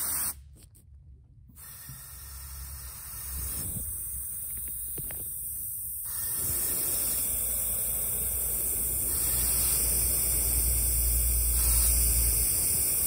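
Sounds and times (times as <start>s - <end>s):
compressed air hissing: 0.0s - 0.4s, 1.5s - 13.0s.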